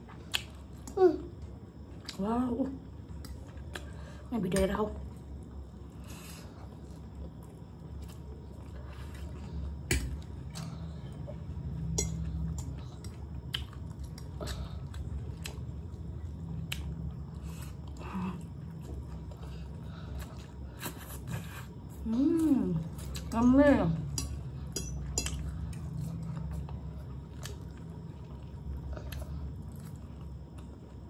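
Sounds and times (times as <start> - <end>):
steady low hum: 0.0 - 31.0
noodles being chewed: 3.0 - 31.0.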